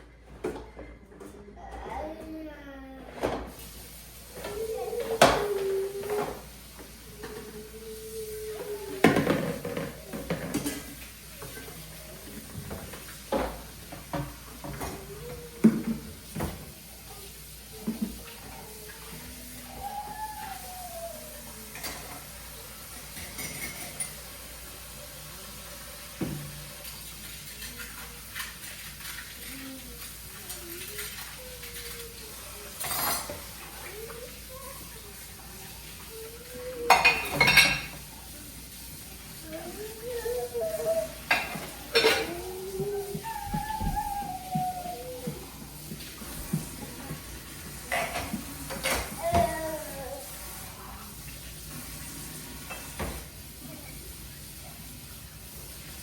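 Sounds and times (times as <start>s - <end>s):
dishes and utensils clinking: 4.3s - 50.6s, 51.4s - 55.2s.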